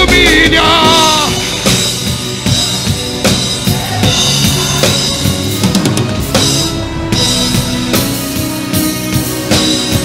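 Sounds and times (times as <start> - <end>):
drum kit beat: 0.0 - 10.0
worship band music: 0.0 - 10.0.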